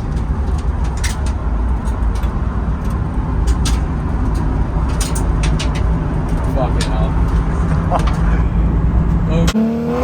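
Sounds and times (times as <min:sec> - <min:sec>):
clicks and rattles: 0:00.0 - 0:08.4
car road rumble: 0:00.0 - 0:10.0.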